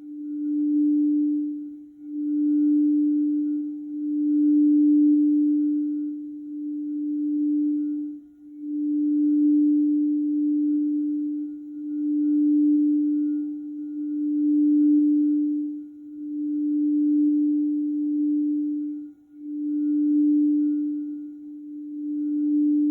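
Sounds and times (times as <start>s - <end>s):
singing bowl low tone: 0.0s - 22.9s.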